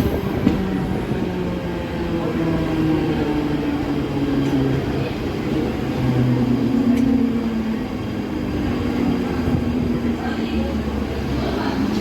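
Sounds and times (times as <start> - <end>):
train rumbling from inside: 0.0 - 12.0.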